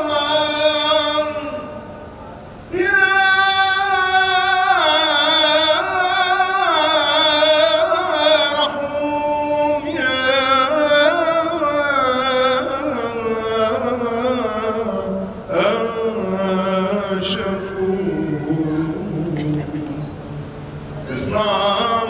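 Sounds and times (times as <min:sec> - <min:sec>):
man chanting a hymn: 0:00.0 - 0:22.0.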